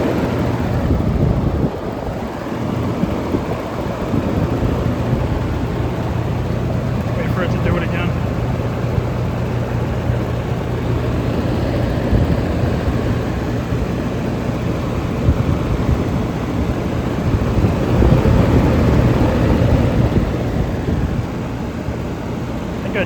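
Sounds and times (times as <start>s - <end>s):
compressor electric hum: 0.0s - 23.0s
fans rushing: 0.0s - 23.0s.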